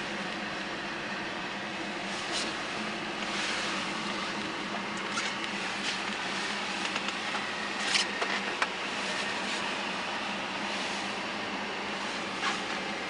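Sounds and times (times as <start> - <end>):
car engine hum: 0.0 - 13.0
road noise hiss: 0.0 - 13.0.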